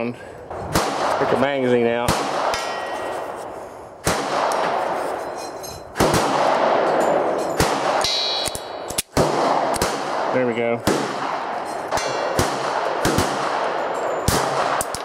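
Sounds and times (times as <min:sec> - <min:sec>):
gunshots with long echo: 0:00.5 - 0:05.0, 0:06.0 - 0:15.0.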